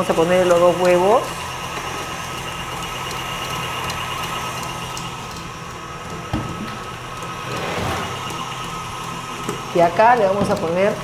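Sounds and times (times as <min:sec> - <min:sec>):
electric stand mixer running: 0:00.0 - 0:11.0.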